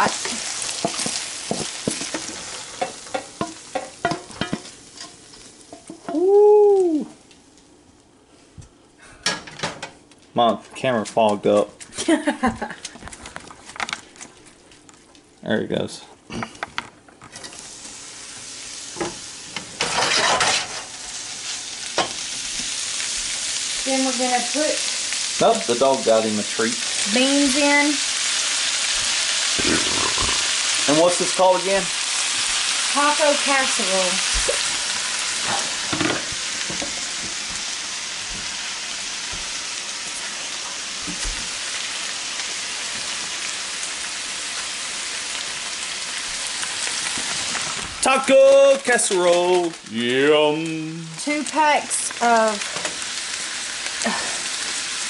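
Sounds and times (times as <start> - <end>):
ground beef sizzling in pan: 0.0 - 8.1, 17.3 - 55.0.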